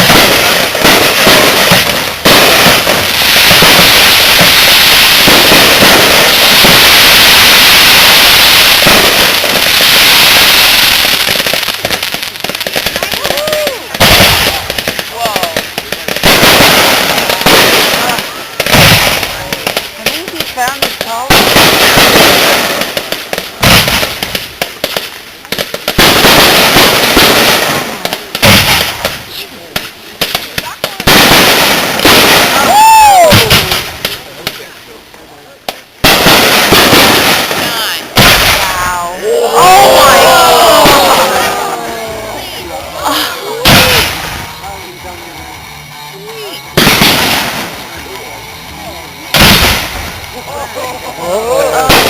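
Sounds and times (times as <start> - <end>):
fireworks booming: 0.0 - 52.0
fireworks crackling: 0.0 - 52.0.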